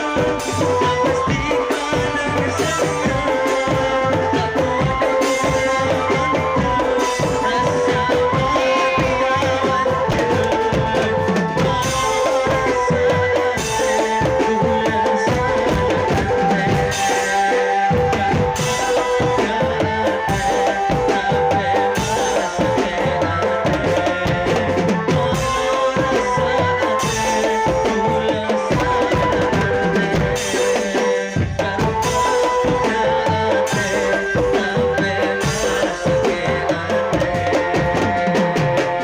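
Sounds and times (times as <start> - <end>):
bass drum and snare drums: 0.0 - 39.0.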